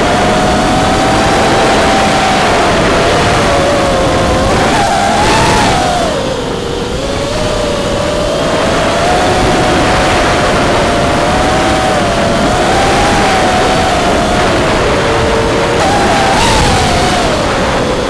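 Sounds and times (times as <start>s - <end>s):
quadcopter motors buzzing: 0.0s - 18.0s
wind hiss: 0.0s - 18.0s.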